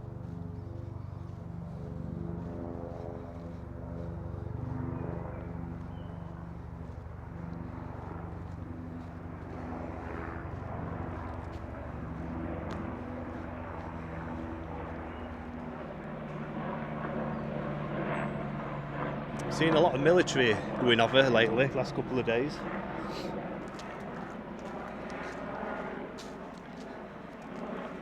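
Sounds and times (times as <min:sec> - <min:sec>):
aircraft engine droning overhead: 0:00.0 - 0:28.0.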